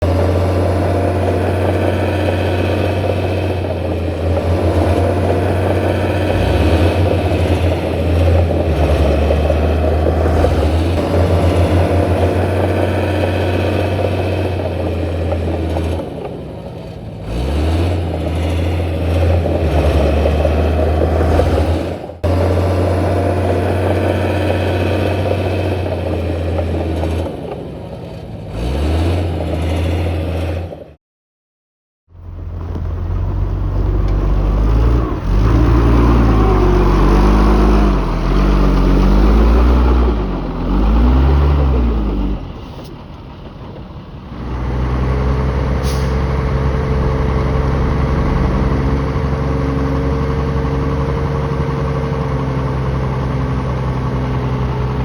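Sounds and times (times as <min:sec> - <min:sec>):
heavy machinery diesel engine revving: 0:00.0 - 0:31.0, 0:32.2 - 0:55.0.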